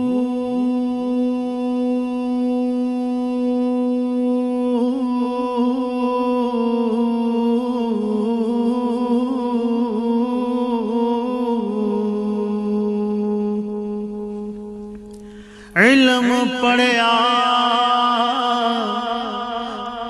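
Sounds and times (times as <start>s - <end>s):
man humming a chant: 0.0s - 20.0s.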